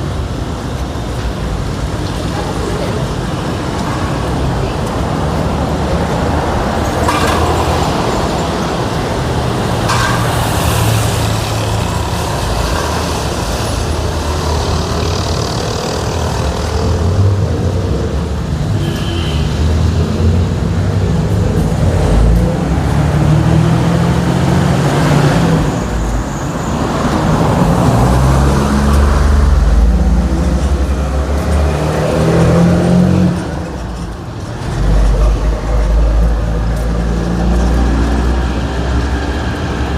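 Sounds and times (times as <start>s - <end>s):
vehicle engines passing: 0.0s - 39.9s.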